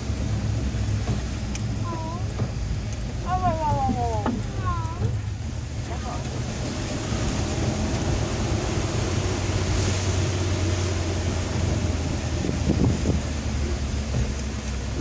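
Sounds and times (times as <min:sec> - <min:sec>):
engine drone in vehicle cabin: 0:00.0 - 0:15.0
road and wind noise hiss: 0:00.0 - 0:15.0.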